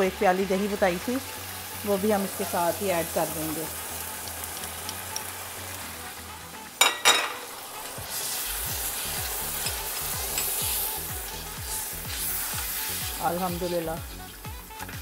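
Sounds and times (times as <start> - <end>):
masala sizzling in a pot: 0.0 - 15.0.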